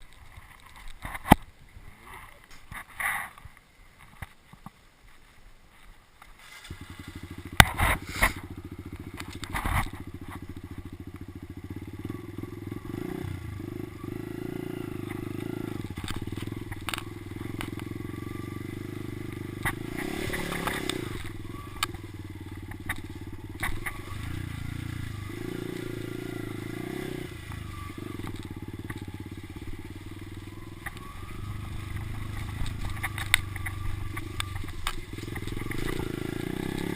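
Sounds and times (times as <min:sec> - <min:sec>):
motocross bike engine running: 0:06.6 - 0:36.9.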